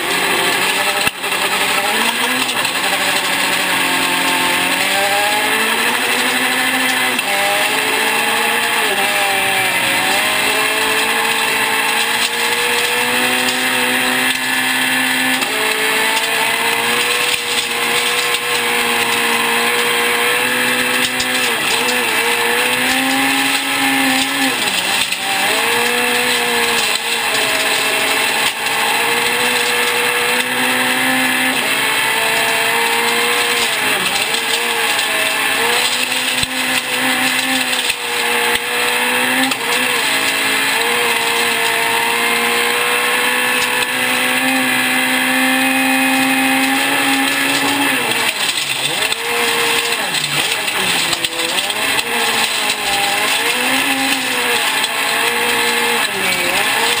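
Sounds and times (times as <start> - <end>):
gravel and tyre noise: 0.0 - 57.0
rally car engine revving: 0.0 - 57.0.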